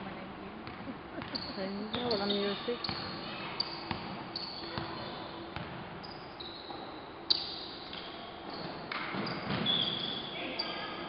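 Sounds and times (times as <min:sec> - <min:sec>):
basketball bouncing on court floor: 0:00.6 - 0:06.1, 0:06.7 - 0:10.2.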